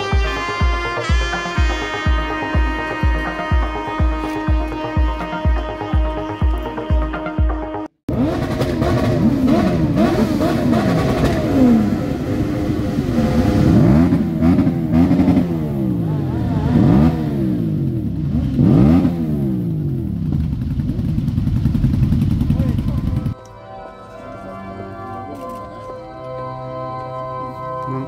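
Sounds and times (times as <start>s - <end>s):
motorcycles revving engines: 0.0s - 23.4s.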